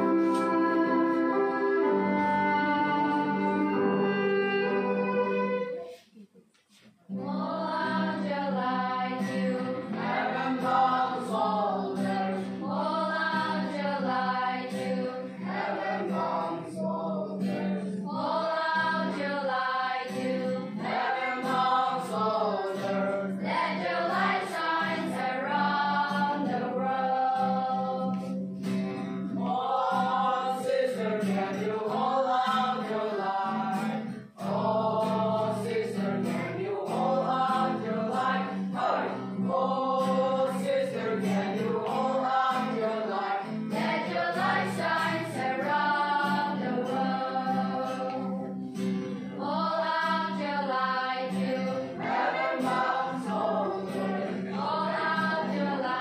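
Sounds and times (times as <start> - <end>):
group of voices singing: 7.1 - 28.4, 29.3 - 56.0.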